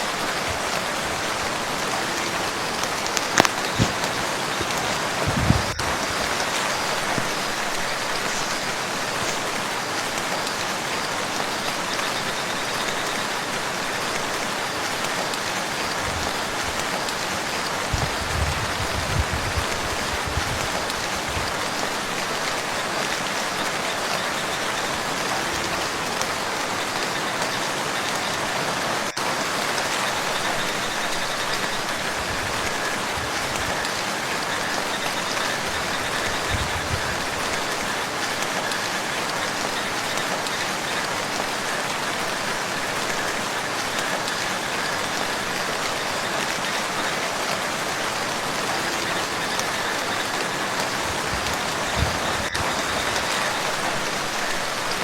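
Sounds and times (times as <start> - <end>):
rain falling on lake: 0.0 - 55.0.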